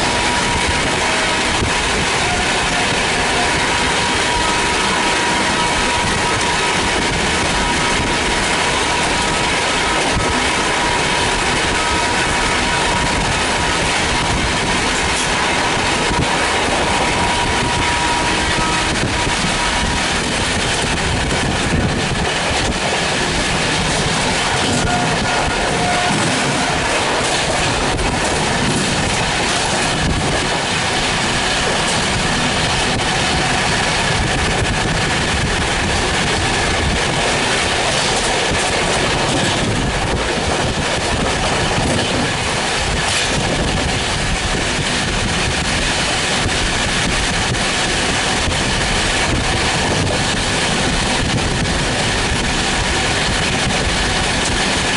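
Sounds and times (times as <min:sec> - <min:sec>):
rail clatter: 0:00.0 - 0:54.9
train wheels rushing on rails: 0:00.0 - 0:54.9.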